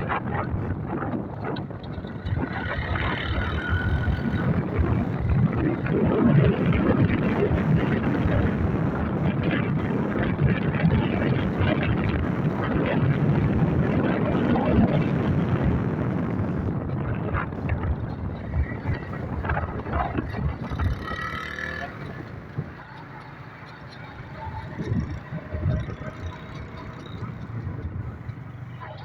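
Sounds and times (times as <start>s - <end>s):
motorcycle engine riding: 0.0s - 29.0s
wind rushing over microphone: 0.0s - 29.0s.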